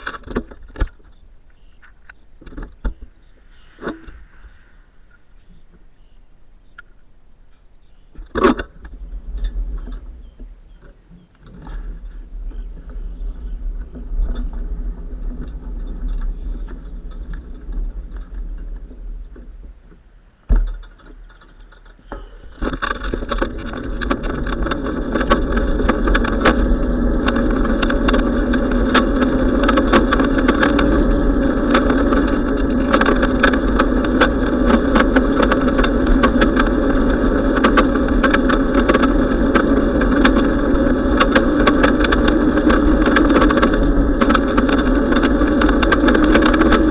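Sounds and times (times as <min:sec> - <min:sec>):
wind and road noise: 0:00.0 - 0:46.9
small rattling ticks: 0:07.9 - 0:46.9.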